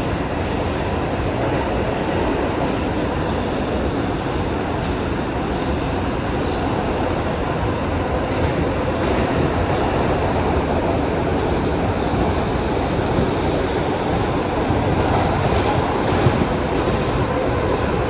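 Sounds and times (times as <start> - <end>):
subway wheels rumbling on rails: 0.0 - 18.0.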